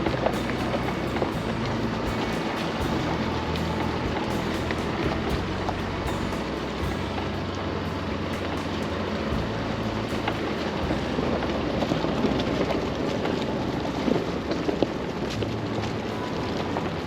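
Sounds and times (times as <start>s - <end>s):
truck engine drone: 0.0s - 17.0s.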